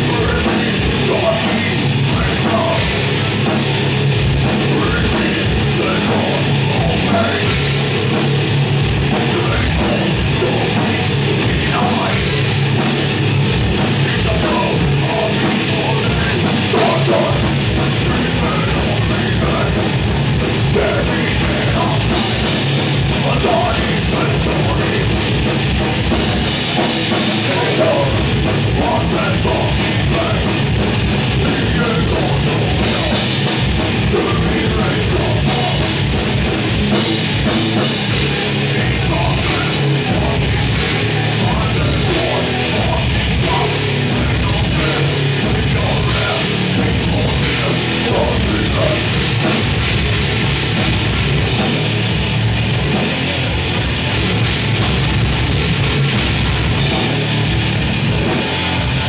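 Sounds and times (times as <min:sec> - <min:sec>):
live metal band playing: 0:00.0 - 0:59.0.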